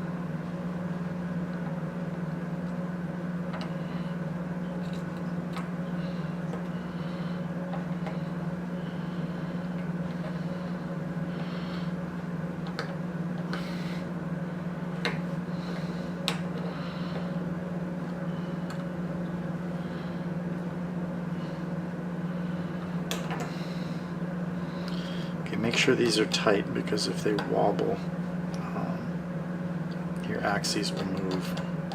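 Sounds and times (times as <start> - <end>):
low room hum: 0.0 - 31.9.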